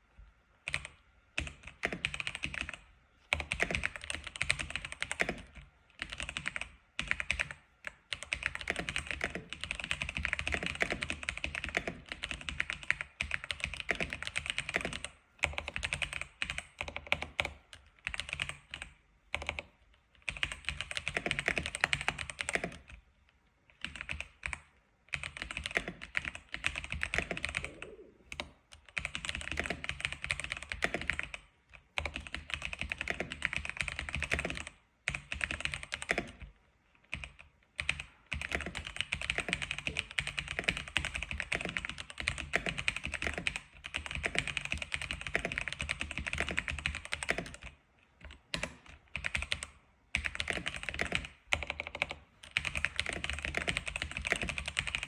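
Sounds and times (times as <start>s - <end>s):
keyboard typing: 0.7s - 23.0s, 23.7s - 36.5s, 37.1s - 55.0s.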